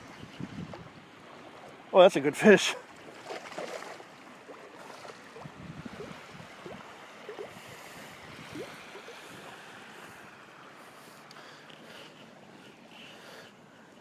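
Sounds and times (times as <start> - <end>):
water rushing: 0.0 - 13.4
wind: 0.0 - 14.0.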